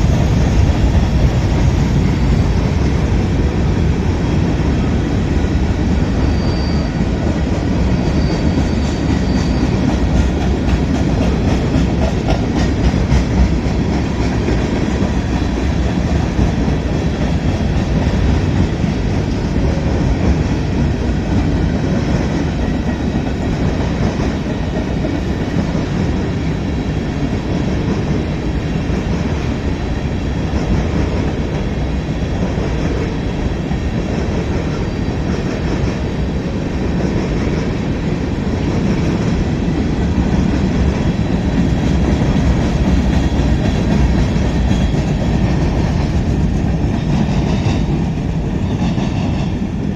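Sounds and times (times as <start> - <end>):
train cars rattling: 0.0 - 49.9
train wheels rumbling on rails: 0.0 - 49.9.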